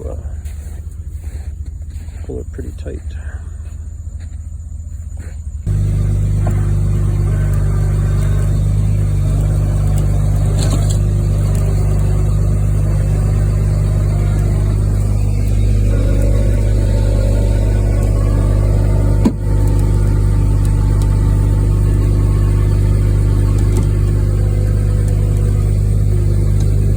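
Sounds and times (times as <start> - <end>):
truck engine drone: 0.0 - 26.9.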